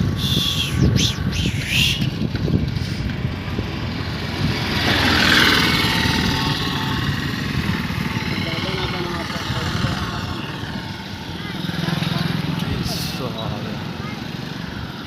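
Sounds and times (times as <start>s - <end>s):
vehicle passing close by: 0.0s - 12.9s
traffic engine rumble: 0.0s - 15.0s.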